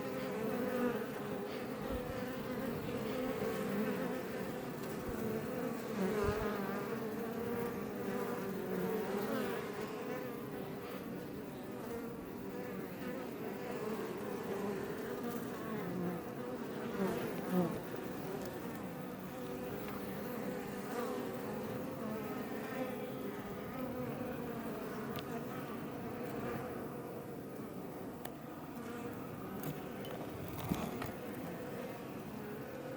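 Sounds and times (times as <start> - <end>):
bee flying close past: 0.0 - 27.1
hum of many bees: 0.0 - 32.9.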